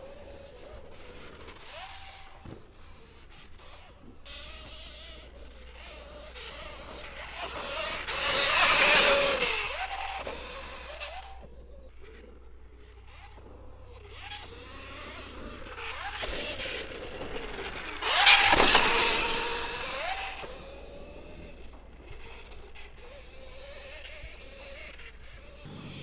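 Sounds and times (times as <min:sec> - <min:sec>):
electric dirt bike motor whining: 0:00.0 - 0:26.0.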